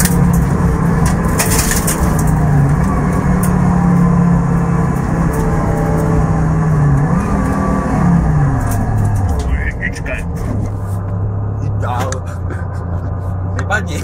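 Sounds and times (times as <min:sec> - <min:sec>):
car engine from inside cabin: 0:00.0 - 0:14.0
road and wind noise: 0:00.0 - 0:14.0.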